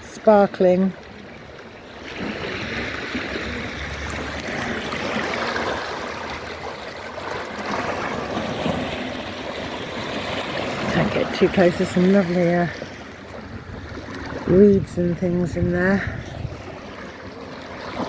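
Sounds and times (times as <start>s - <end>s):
water rushing at the shore: 0.0s - 18.0s.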